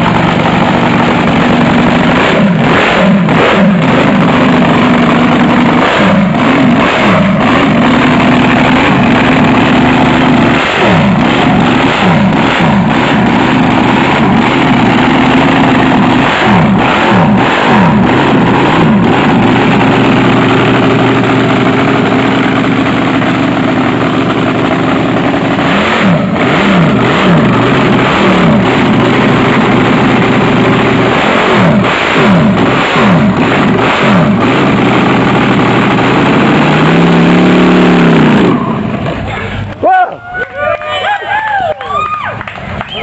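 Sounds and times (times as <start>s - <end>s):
boat engine idling with throttle blips: 0.0s - 41.2s.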